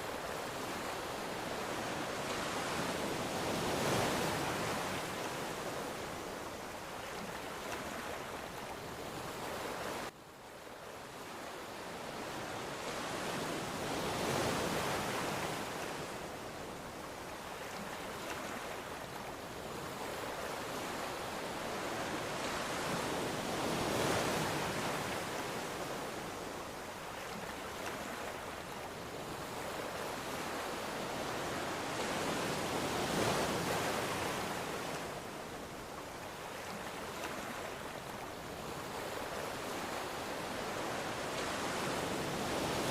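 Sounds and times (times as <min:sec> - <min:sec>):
ocean waves breaking: 0:00.0 - 0:10.1, 0:12.3 - 0:42.9.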